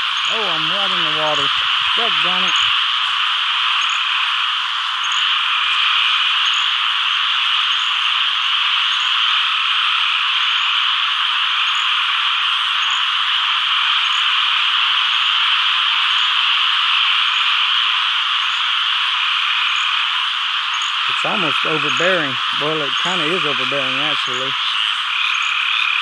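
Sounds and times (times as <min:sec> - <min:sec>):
frogs calling in chorus: 0:00.0 - 0:26.0.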